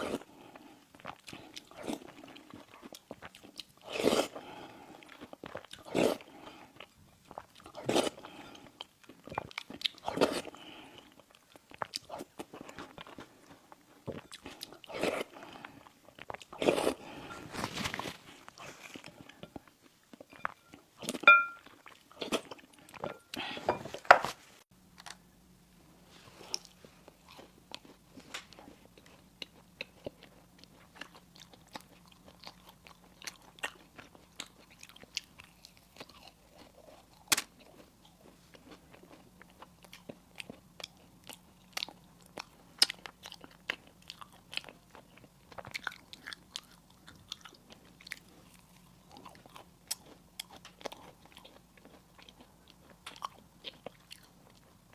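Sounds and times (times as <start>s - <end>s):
soft chewing: 0.0s - 24.0s, 24.9s - 54.9s.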